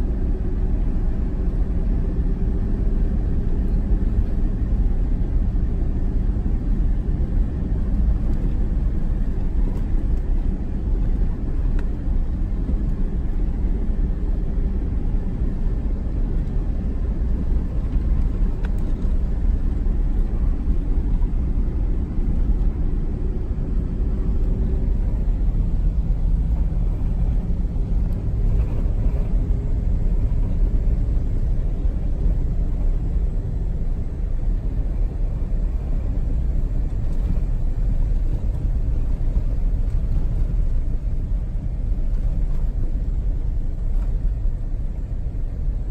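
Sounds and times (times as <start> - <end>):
vehicle engine and tyres rumbling: 0.0 - 45.9.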